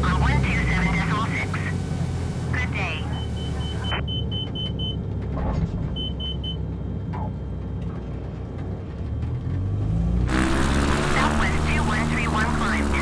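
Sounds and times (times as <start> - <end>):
aircraft rumble in cockpit: 0.0 - 13.0.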